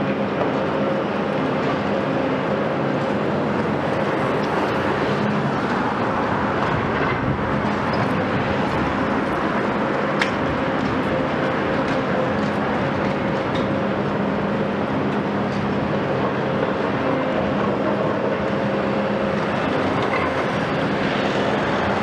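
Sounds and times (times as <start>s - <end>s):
excavator diesel engine and hydraulics: 0.0s - 22.0s.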